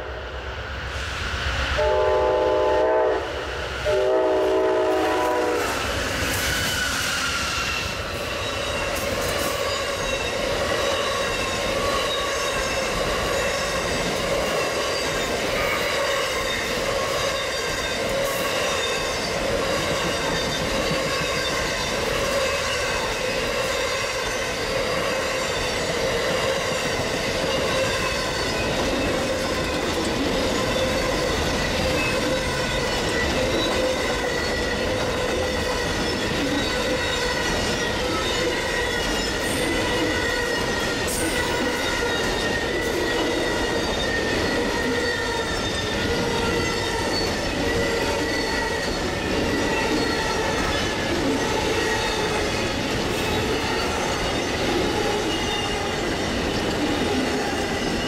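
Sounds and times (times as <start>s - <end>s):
train cars rumbling on rails: 0.0s - 58.0s
train wheels squealing: 2.8s - 58.0s.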